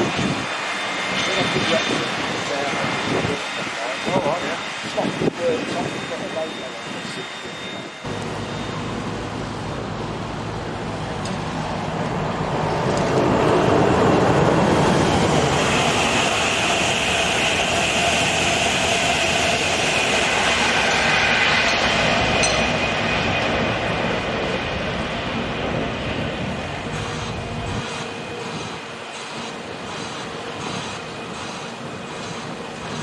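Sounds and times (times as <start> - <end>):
high train whine: 0.0 - 33.0
passenger train passing: 0.0 - 33.0.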